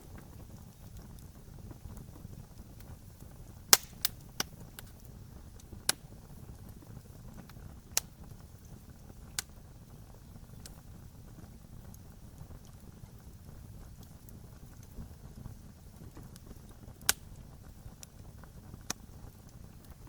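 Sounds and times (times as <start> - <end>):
burning wood popping: 0.0 - 20.0
campfire flame rustle: 0.0 - 20.0.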